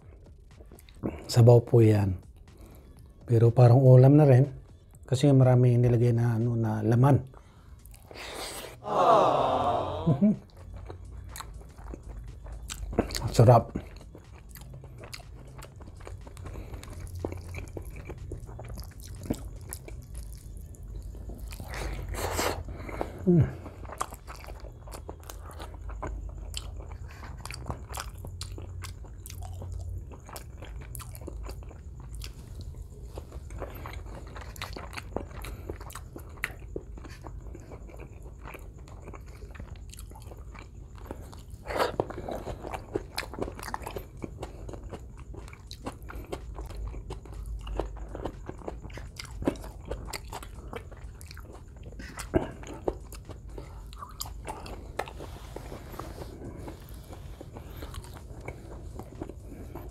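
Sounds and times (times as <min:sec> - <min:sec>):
man chewing with mouth sounds: 0:00.0 - 0:03.6, 0:06.4 - 0:59.9.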